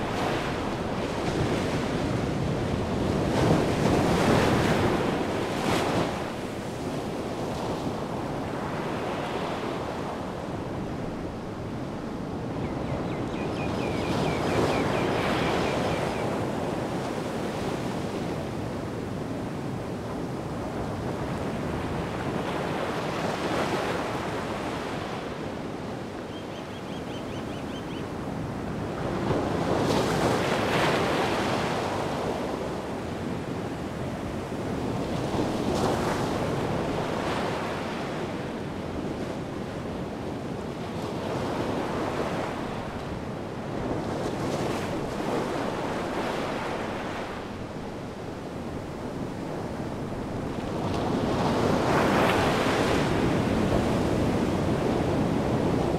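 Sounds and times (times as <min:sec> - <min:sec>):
wind: 0:00.0 - 0:55.9.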